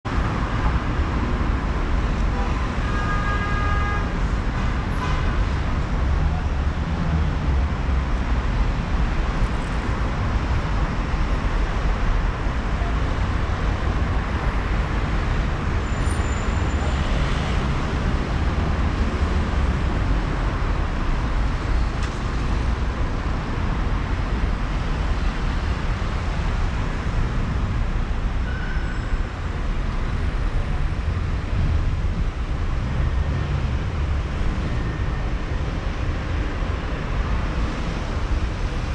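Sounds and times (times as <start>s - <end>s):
street traffic rumble: 0.0s - 38.9s.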